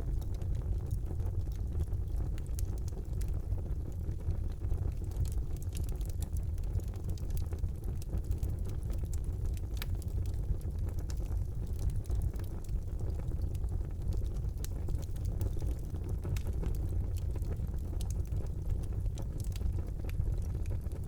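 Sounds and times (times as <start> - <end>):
burning wood crackling and popping: 0.0 - 21.0
fire flames roaring: 0.1 - 21.0.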